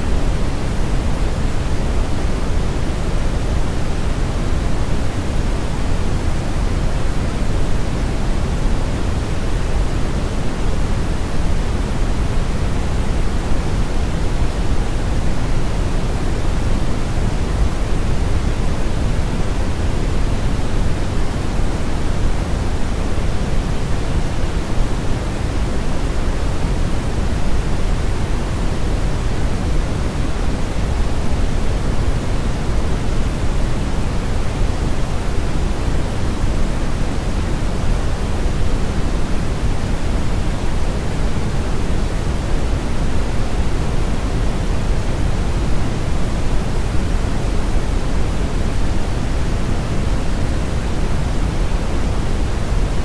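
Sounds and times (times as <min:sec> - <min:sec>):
brown noise hiss: 0:00.0 - 0:53.0.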